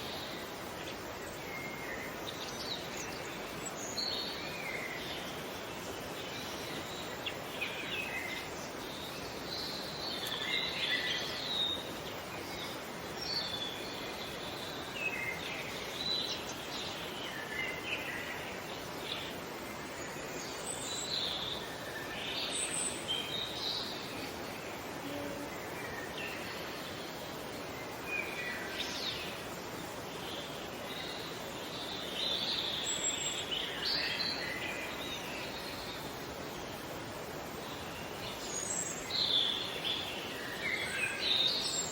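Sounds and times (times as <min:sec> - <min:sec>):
outdoor ambience hiss: 0:00.0 - 0:41.9.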